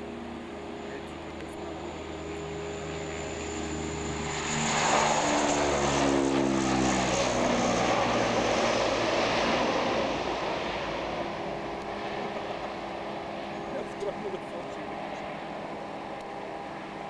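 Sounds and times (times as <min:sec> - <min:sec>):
turboprop plane taking off: 0:00.0 - 0:17.0.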